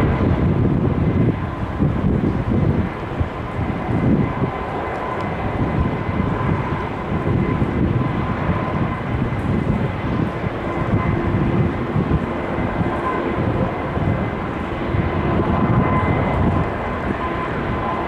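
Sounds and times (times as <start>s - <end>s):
faint engine whine: 0.0s - 18.0s
jet engines running: 0.0s - 18.0s
wind on microphone: 0.0s - 18.0s.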